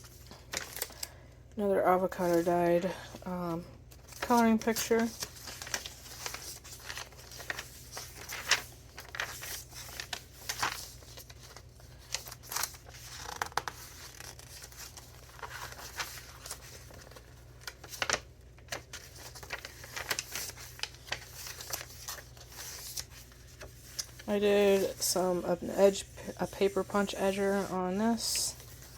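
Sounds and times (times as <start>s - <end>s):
paper pages rustling: 0.0s - 1.2s, 3.9s - 28.9s.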